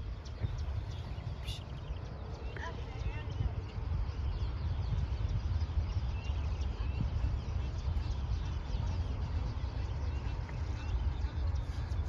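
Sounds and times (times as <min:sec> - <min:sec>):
low rumble: 0:00.0 - 0:12.0
small birds chirping: 0:00.0 - 0:12.0.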